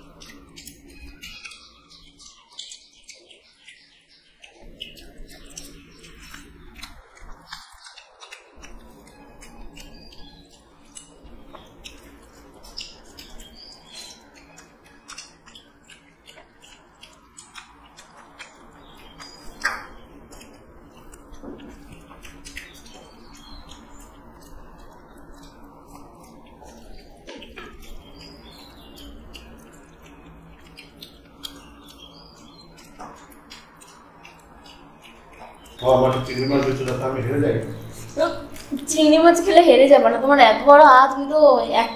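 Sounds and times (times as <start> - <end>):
wet chewing and mouth smacks: 0.0 - 35.8, 37.7 - 38.9
fingers squishing rice on plates: 0.0 - 39.1.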